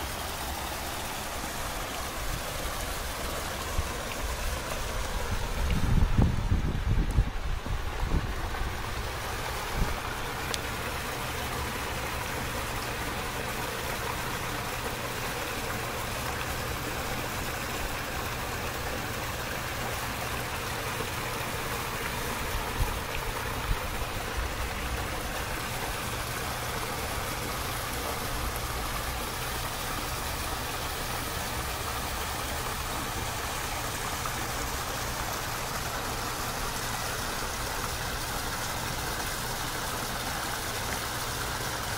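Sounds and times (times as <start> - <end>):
waterfall splashing over rocks: 0.0 - 41.9.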